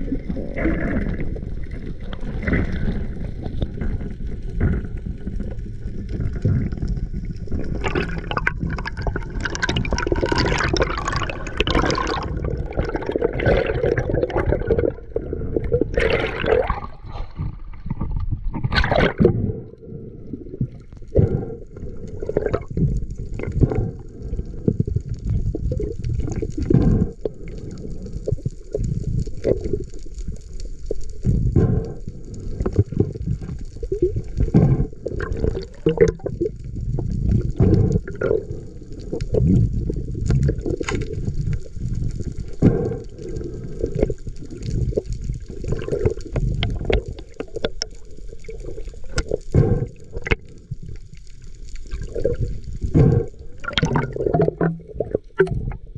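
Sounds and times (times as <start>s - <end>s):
faint crackles: 0.0s - 55.9s
muffled water rushing: 0.0s - 55.9s.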